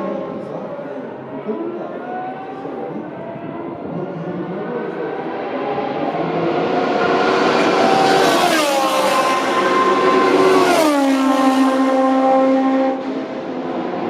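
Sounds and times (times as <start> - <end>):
race cars passing at high speed: 0.0 - 14.0.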